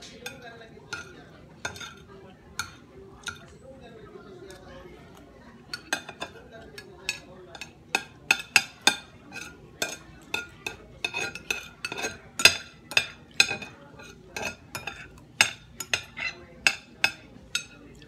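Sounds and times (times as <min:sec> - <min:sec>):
cutlery clinking on ceramic plate: 0:00.0 - 0:03.6, 0:05.6 - 0:18.0.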